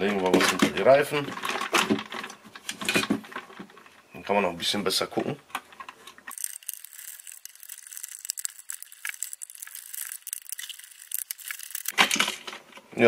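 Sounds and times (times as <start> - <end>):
plastic parts clicking and rattling: 0.0 - 4.0, 5.2 - 13.0.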